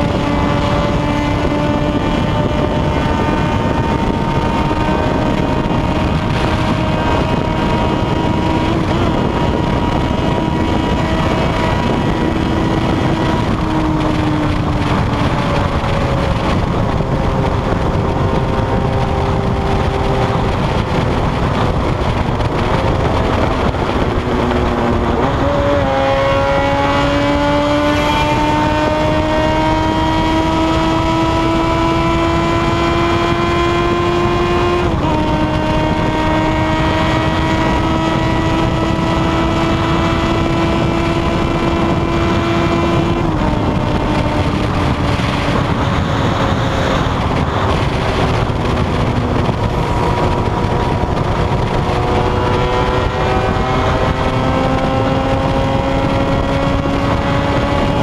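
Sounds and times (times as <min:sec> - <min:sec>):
motorcycle engine pulling hard: 0:00.0 - 0:58.0
rushing wind: 0:00.0 - 0:58.0.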